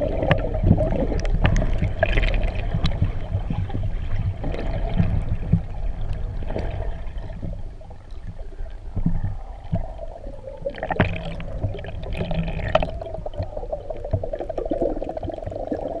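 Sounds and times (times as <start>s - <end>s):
low rumble: 0.0s - 16.0s
muffled underwater rushing water: 0.0s - 16.0s.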